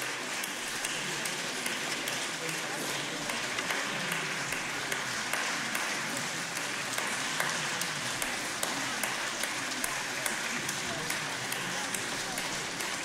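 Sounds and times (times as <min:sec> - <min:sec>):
audience clapping in unison: 0:00.0 - 0:13.0.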